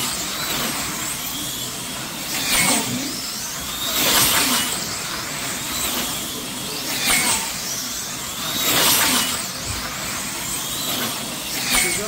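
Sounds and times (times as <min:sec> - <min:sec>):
cars hissing along slots: 0:00.0 - 0:12.0
slot car motors whining: 0:00.0 - 0:12.0.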